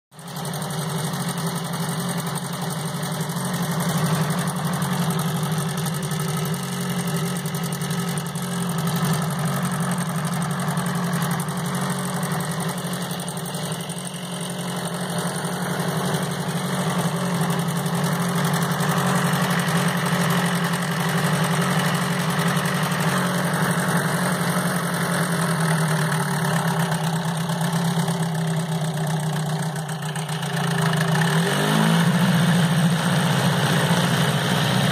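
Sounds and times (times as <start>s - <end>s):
outboard motor idling: 0.2s - 34.9s.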